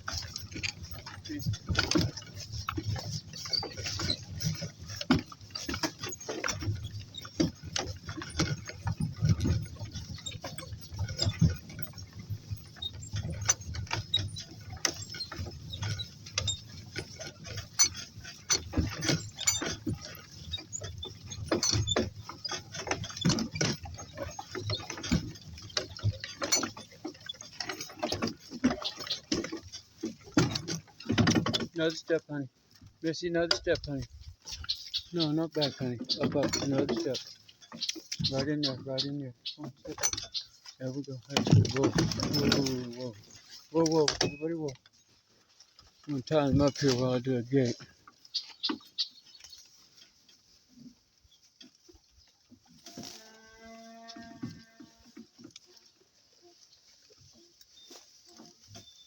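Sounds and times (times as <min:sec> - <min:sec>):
donkey hooves thudding: 0:00.0 - 0:59.0
tack clicking and rattling: 0:00.0 - 0:59.0.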